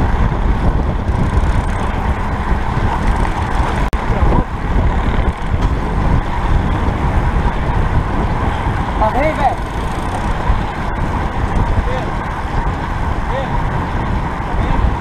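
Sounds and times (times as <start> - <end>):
road and tyre noise: 0.0 - 15.0
wind rushing over microphone: 0.0 - 15.0.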